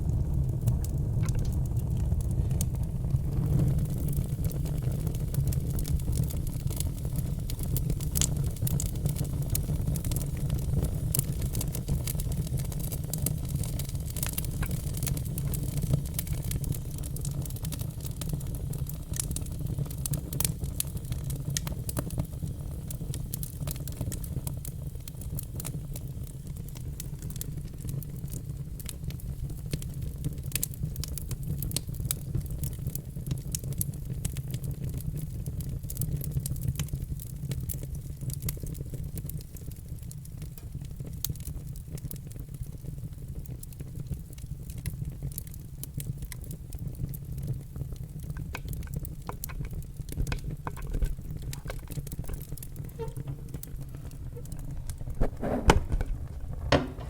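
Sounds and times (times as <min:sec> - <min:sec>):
log fire crackling and popping: 0:00.0 - 0:57.0
low rumble of flames: 0:00.0 - 0:57.0.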